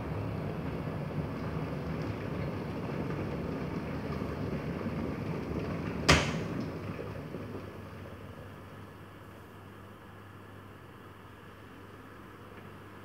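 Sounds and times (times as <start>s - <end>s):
electric kettle boiling: 0.0s - 13.0s.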